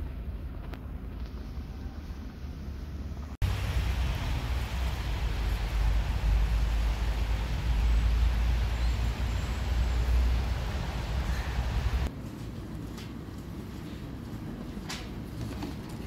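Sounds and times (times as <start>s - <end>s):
street noise rumble and hiss: 0.0s - 16.0s.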